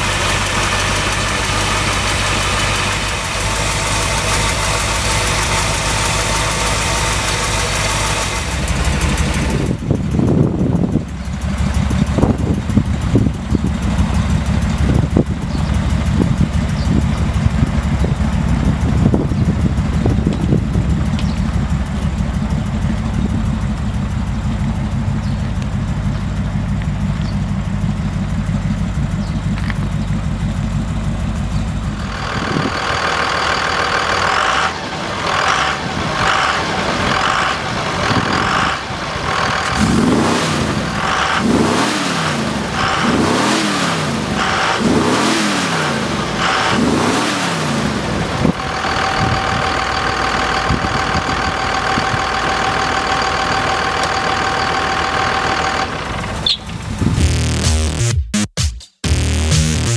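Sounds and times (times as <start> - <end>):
engine revving: 0.0 - 25.4, 27.2 - 59.9
truck engine idling: 0.0 - 58.0.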